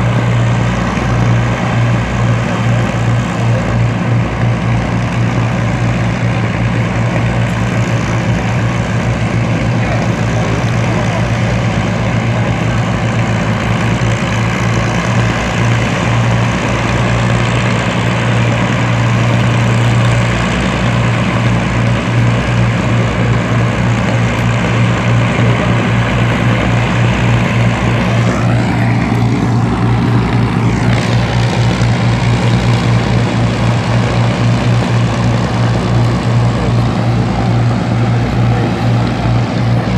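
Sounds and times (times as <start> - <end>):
aircraft piston engines droning: 0.0 - 39.9.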